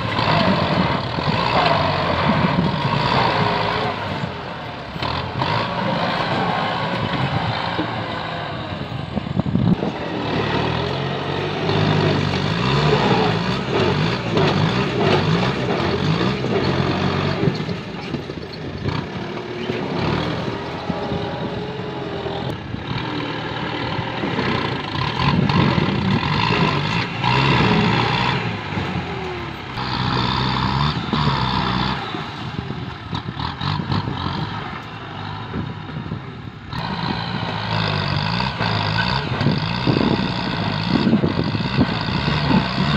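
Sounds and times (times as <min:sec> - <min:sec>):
tractor diesel engine revving: 0:00.0 - 0:42.9.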